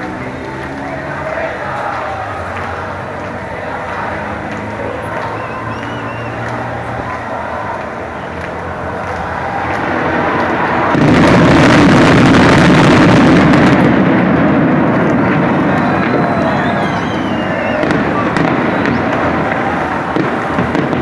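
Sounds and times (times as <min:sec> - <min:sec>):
fireworks bursts and crackles: 0:00.0 - 0:21.0.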